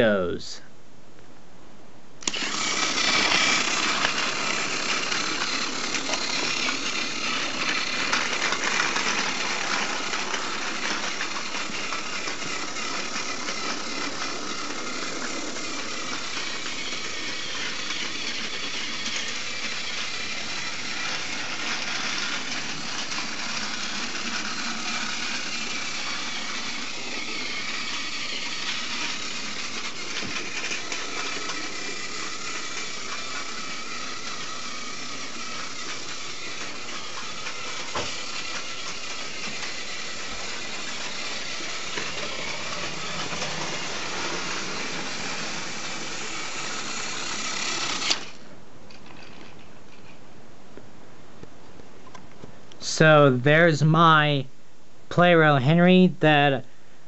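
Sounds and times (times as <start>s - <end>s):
plastic wheels on rails: 2.2s - 50.2s
toy train motor whirring: 2.2s - 50.2s.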